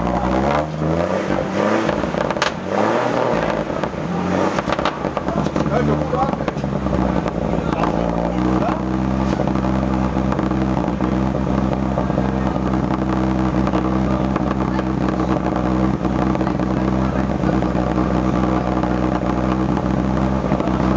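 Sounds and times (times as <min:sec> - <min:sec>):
petrol engine idling: 0:00.0 - 0:20.9.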